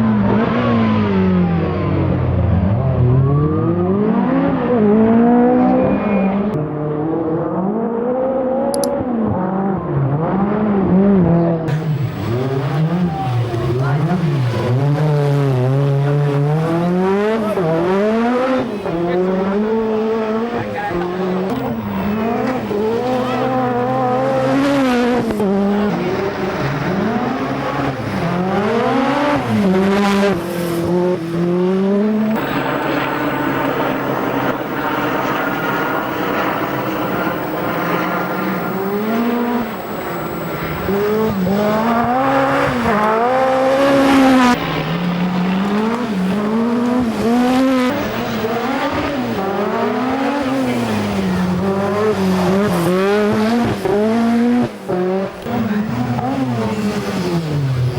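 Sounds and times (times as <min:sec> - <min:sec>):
rally car engine revving: 0:00.0 - 0:57.9.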